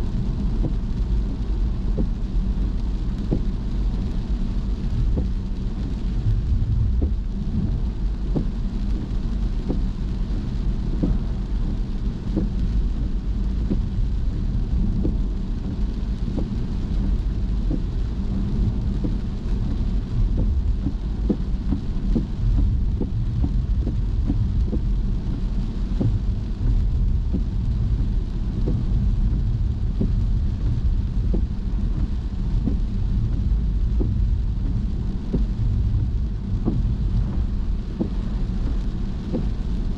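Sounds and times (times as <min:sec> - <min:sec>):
car driving rumble: 0:00.0 - 0:39.9
raindrops ticking on car: 0:00.0 - 0:39.9.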